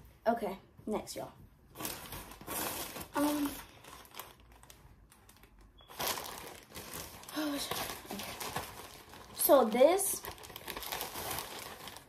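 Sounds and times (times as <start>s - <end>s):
plastic bag crinkling: 1.7s - 12.0s.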